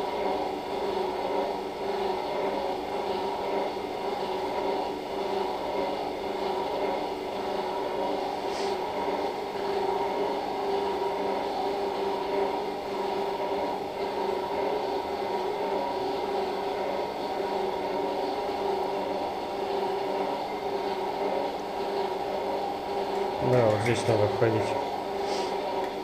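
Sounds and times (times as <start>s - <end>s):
medical equipment humming drone: 0.0s - 26.0s.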